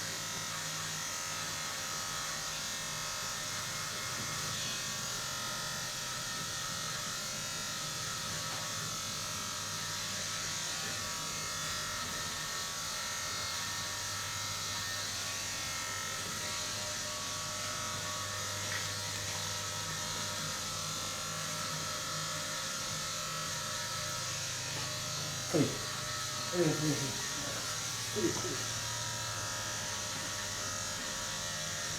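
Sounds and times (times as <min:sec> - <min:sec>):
small electric motor buzzing: 0:00.1 - 0:31.9.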